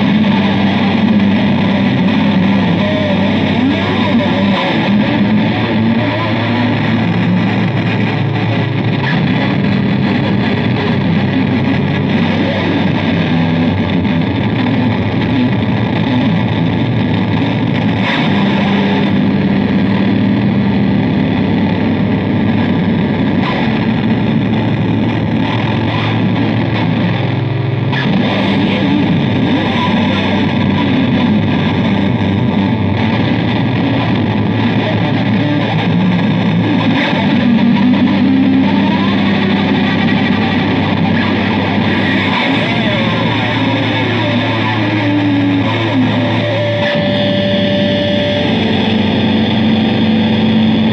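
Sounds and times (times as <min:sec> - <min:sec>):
distorted bass guitar drone: 0:00.0 - 0:50.9.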